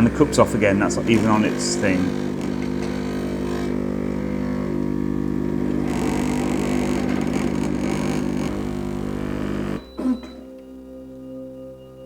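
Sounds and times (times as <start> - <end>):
coffee dispensing: 0.0 - 10.5
coffee machine pump humming: 0.0 - 10.6.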